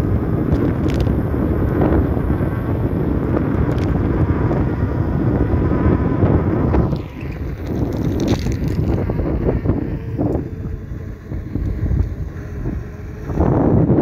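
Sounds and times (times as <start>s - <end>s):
ride rumble: 0.0s - 14.0s
wind rushing over microphone: 0.0s - 14.0s.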